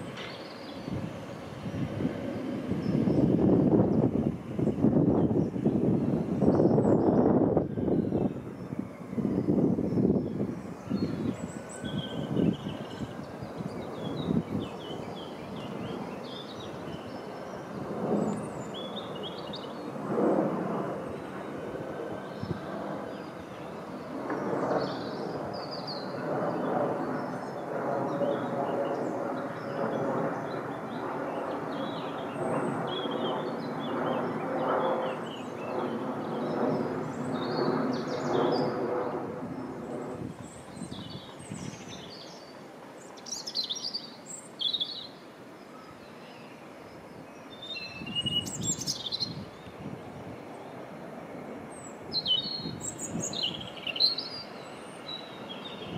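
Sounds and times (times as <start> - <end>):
birds chirping: 0.0 - 20.2, 20.8 - 55.9.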